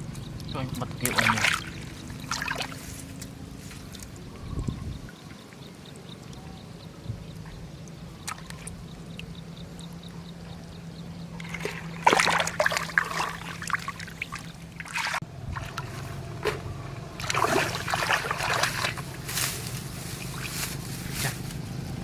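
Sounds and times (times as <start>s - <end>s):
water trickling and splashing: 0.0s - 10.1s, 11.3s - 21.9s
low hum: 0.0s - 22.0s.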